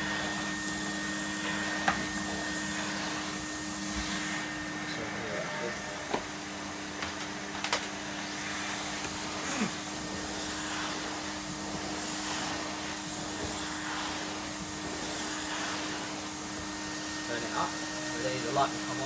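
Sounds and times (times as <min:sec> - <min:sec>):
vacuum cleaner humming: 0:00.0 - 0:19.0.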